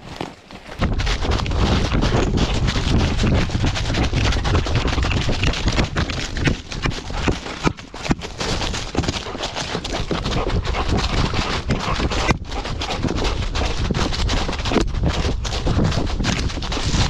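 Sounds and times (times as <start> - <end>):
dog footfalls crunching leaves: 0.0 - 16.8.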